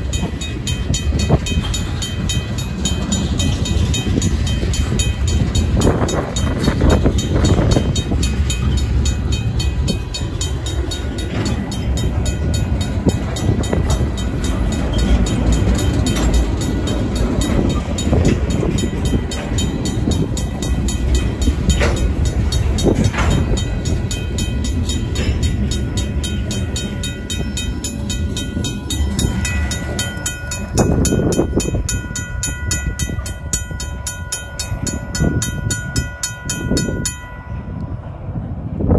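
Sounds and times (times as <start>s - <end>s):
crossing bell ringing rapidly: 0.0s - 38.4s
train cars clanking: 0.0s - 38.7s
freight cars rumbling over rails: 0.0s - 38.9s.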